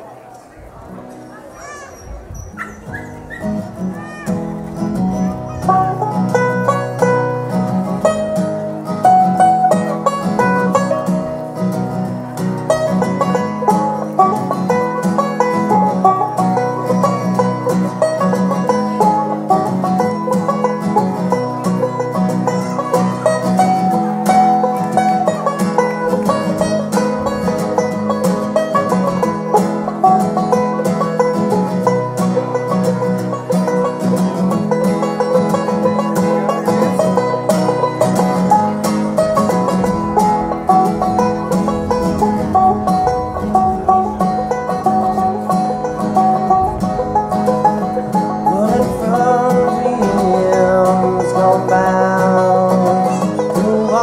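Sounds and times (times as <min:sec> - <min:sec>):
acoustic guitar: 0:00.0 - 0:54.0
banjo picking quick runs: 0:00.8 - 0:54.0.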